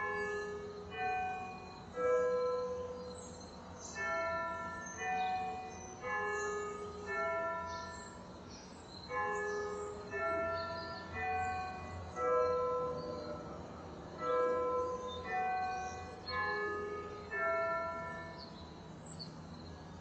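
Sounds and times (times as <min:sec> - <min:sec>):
bells ringing: 0:00.0 - 0:20.0.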